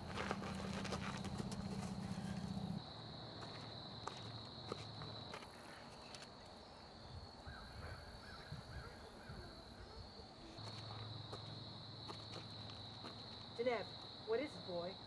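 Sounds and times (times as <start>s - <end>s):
crickets: 0.0s - 15.0s.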